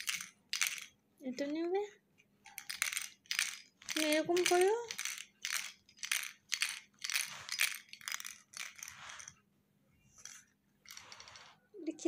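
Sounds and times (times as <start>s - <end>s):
plastic baby rattle shaking: 0.0s - 1.5s, 2.4s - 9.4s, 10.2s - 11.6s.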